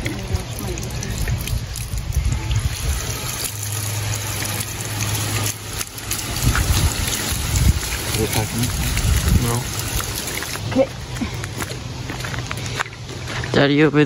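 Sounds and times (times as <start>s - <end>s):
water running and trickling: 0.0s - 13.8s.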